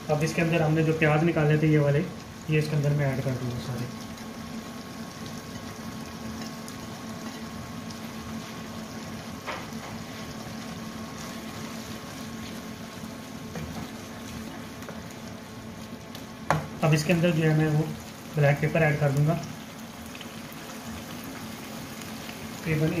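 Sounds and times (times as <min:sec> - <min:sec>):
curry bubbling in a wok: 0:00.0 - 0:23.0.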